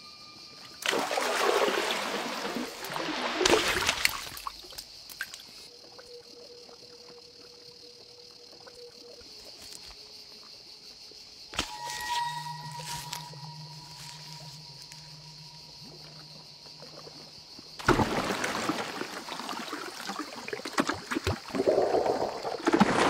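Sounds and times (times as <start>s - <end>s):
water splashing and sloshing: 0.6s - 10.0s, 11.6s - 23.0s.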